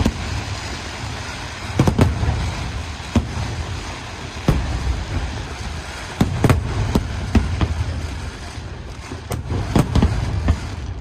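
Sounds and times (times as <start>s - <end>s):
fireworks bursting: 0.0s - 11.0s
steady low rumble: 0.0s - 11.0s.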